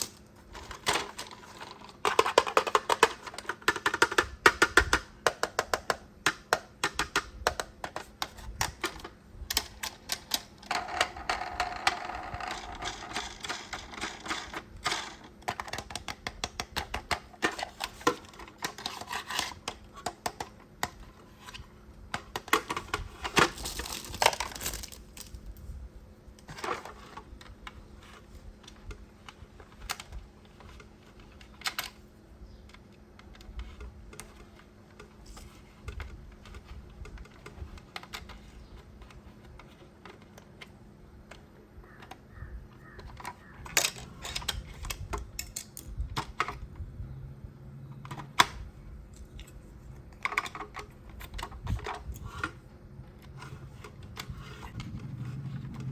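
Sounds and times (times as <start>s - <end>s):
plastic toy parts clicking: 0.0s - 25.6s, 26.4s - 32.0s, 32.6s - 46.8s, 48.0s - 55.9s.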